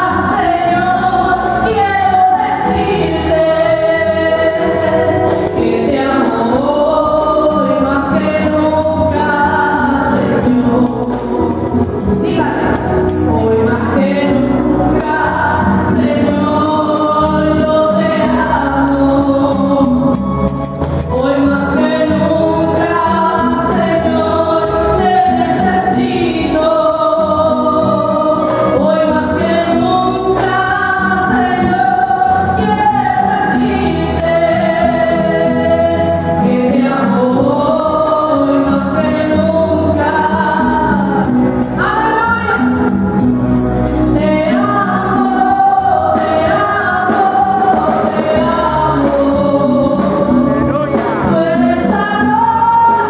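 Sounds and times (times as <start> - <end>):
woman singing through microphone: 0.0 - 43.2, 43.8 - 53.0
live gospel accompaniment: 0.0 - 53.0
tambourine shaking: 0.0 - 53.0.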